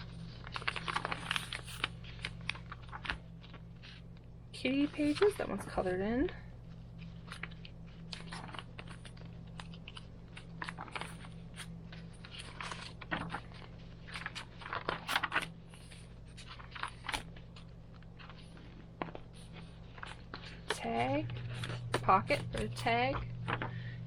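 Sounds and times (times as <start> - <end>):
paper pages rustling: 0.0 - 5.9, 6.7 - 24.0.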